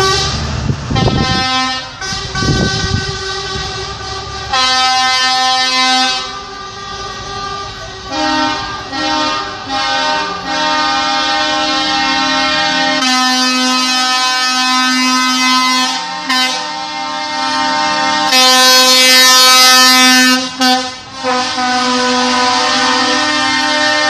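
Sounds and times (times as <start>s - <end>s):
truck air horns blasting: 0.0s - 24.0s.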